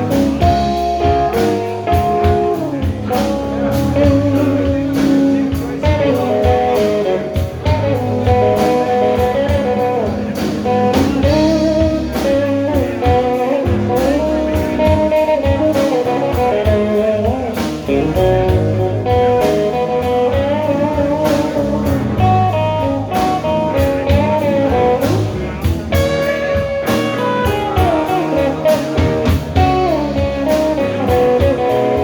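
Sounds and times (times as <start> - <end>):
band playing slow blues: 0.0 - 32.0
lead guitar bending notes: 0.0 - 32.0.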